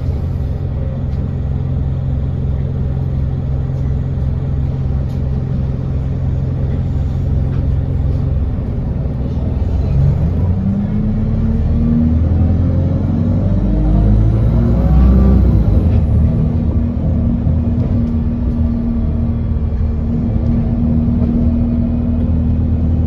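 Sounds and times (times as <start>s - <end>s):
diesel bus engine idling: 0.0s - 23.0s.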